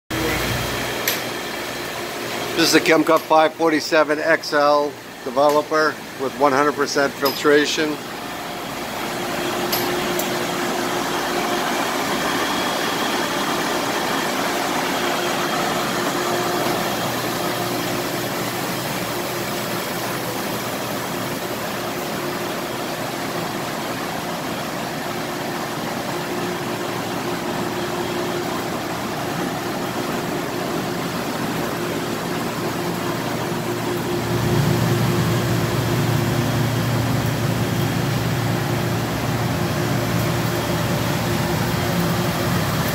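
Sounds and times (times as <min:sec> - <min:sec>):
pumps whirring: 0:00.1 - 0:42.9
constant hum: 0:00.2 - 0:42.9.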